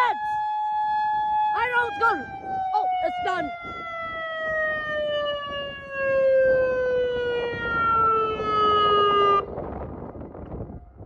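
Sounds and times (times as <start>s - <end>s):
tornado warning siren winding down: 0.0s - 11.0s.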